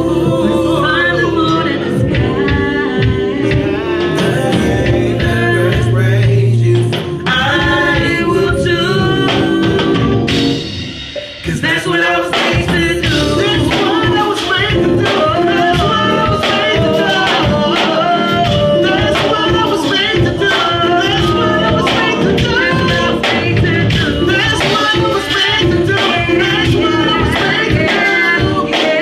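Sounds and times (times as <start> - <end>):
gospel singing: 0.0 - 29.0.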